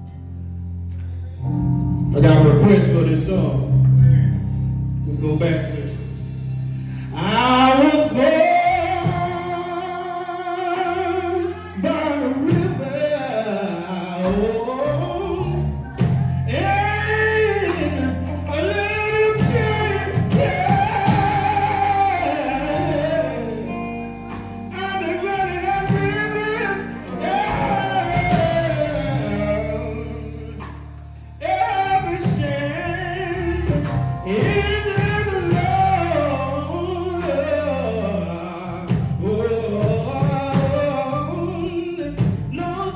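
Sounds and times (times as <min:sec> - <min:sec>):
band playing: 0:00.0 - 0:42.9
lead voice holding long notes: 0:01.5 - 0:06.2, 0:06.9 - 0:42.9
men singing gospel: 0:06.9 - 0:42.9.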